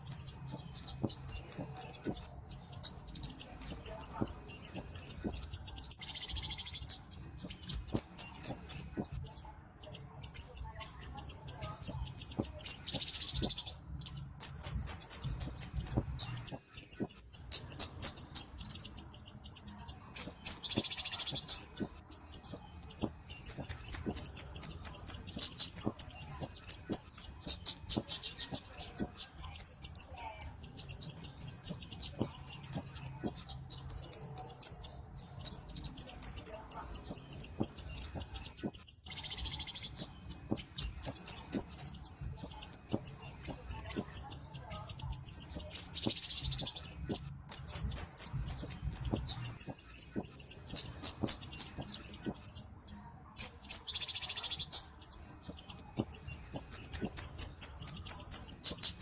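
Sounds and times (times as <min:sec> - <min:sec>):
bird singing high thin chirps: 0:00.0 - 0:59.0.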